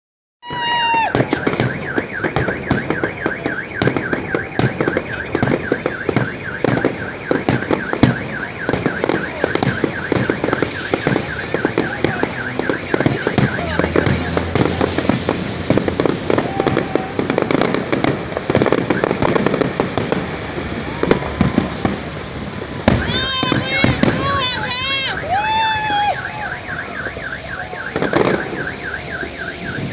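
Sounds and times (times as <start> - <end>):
car alarm warbling: 0.4 - 17.9, 22.3 - 29.9
fireworks bangs and crackles: 0.4 - 29.9.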